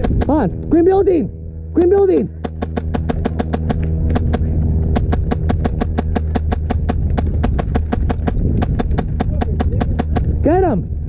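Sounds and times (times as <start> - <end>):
steady low hum: 0.0 - 11.0
running footsteps and jostling gear: 2.0 - 11.0.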